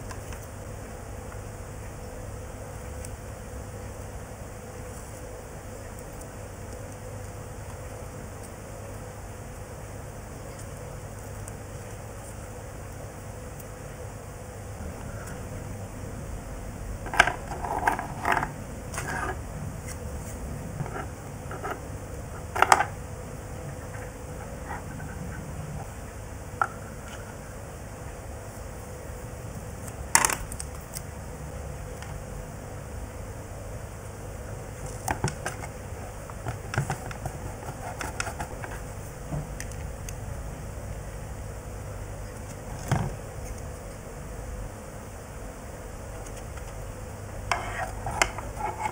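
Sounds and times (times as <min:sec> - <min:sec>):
steady background hum: 0:00.0 - 0:48.9.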